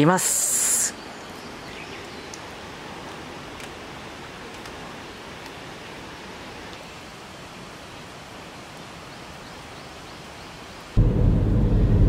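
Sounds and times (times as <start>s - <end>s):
outdoor ambient hiss: 0.0s - 11.9s.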